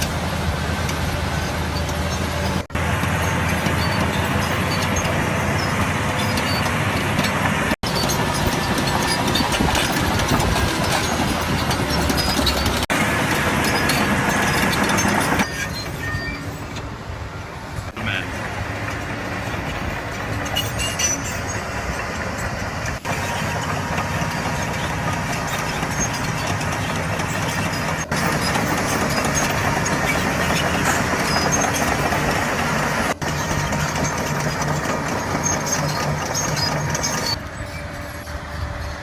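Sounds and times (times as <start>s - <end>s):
heavy diesel machinery running: 0.0s - 39.0s.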